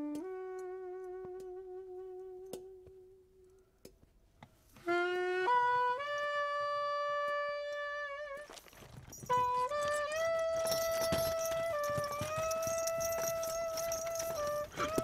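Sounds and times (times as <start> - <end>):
saxophone-like jazz melody: 0.0 - 3.2, 4.8 - 8.6, 9.3 - 15.0.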